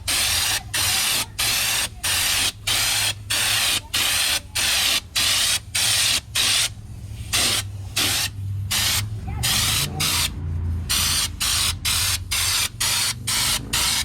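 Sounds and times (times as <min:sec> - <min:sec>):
spray gun hissing bursts: 0:00.0 - 0:14.0.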